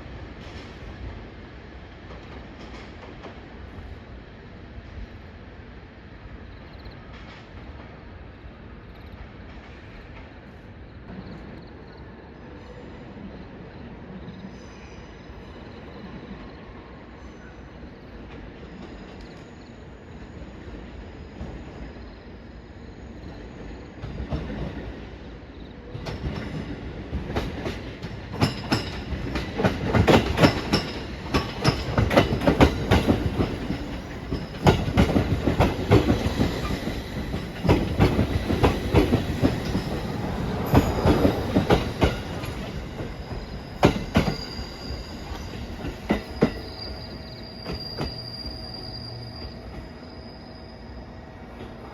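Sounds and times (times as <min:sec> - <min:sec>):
train rumbling on rails: 0:00.0 - 0:51.9.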